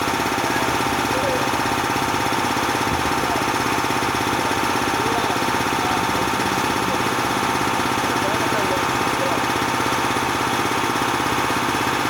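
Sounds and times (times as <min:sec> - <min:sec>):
air compressor pulsing: 0:00.0 - 0:12.0.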